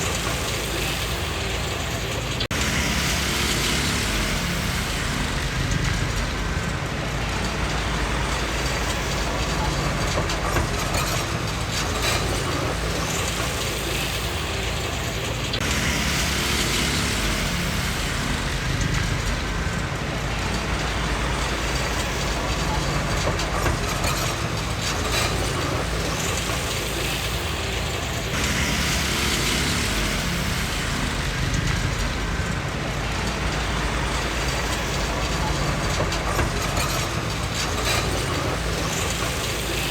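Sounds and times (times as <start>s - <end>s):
diesel engine running: 0.0s - 39.9s
metallic clatter of steel tracks: 0.0s - 39.9s.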